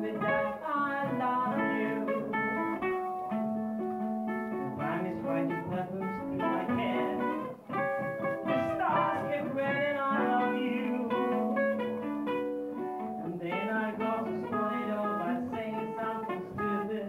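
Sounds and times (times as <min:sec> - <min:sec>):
man singing with ukulele: 0:00.0 - 0:02.8, 0:04.4 - 0:17.0.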